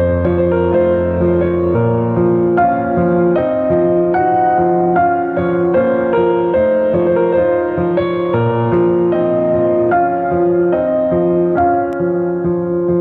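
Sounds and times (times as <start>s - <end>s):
slow gentle solo piano: 0.0s - 13.0s.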